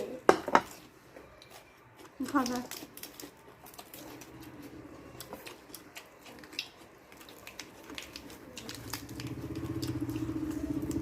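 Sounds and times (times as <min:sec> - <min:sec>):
chewing: 0:00.7 - 0:11.0.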